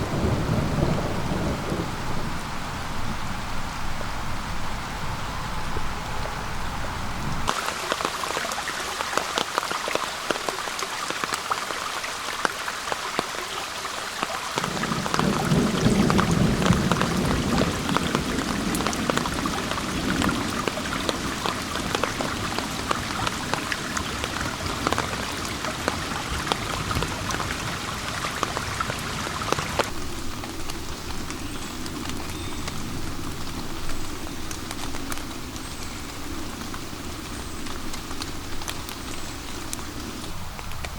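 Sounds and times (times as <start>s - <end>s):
thunder rumbling: 0.0s - 7.6s, 14.6s - 40.9s
rain falling in forest: 0.0s - 40.9s.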